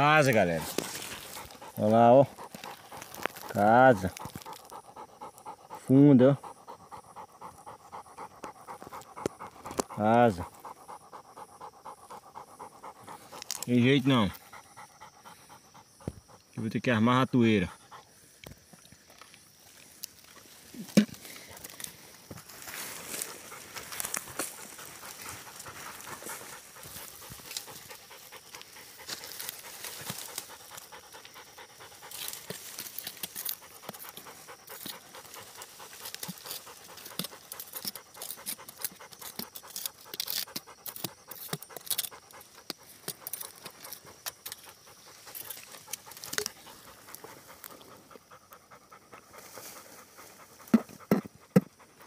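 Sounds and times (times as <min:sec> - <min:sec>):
dog panting rapidly: 0:00.0 - 0:16.6, 0:17.3 - 0:18.2, 0:23.0 - 0:52.0
rustling and scratching in dirt: 0:00.0 - 0:52.0.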